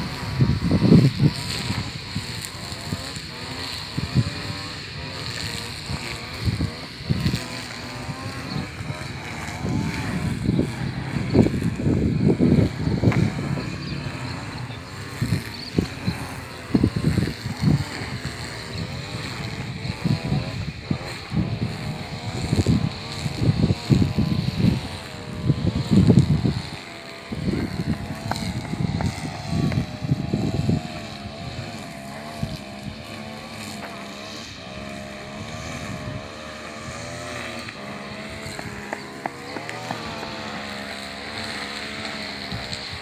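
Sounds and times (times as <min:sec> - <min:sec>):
motor droning: 0:00.0 - 0:43.0
wind buffeting microphone: 0:00.0 - 0:43.0.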